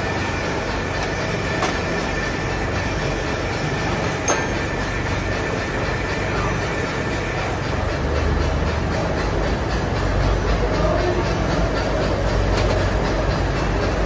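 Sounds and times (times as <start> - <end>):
machine shop machinery running: 0.0 - 14.0.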